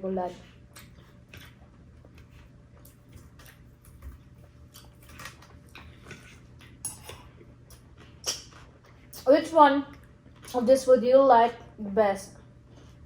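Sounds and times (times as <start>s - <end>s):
eating and chewing sounds: 0.2s - 10.8s.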